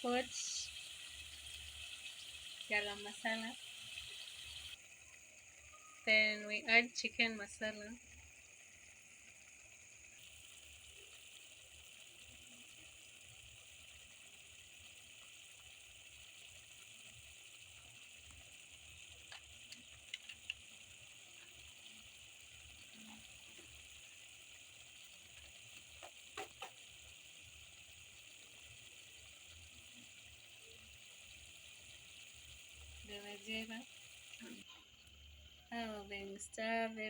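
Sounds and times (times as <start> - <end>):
curry sizzling in a pan: 0.0 - 37.0.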